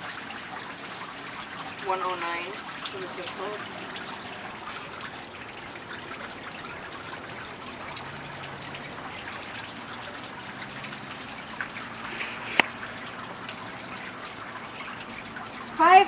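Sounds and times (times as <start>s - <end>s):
rain falling and dripping: 0.0s - 16.0s.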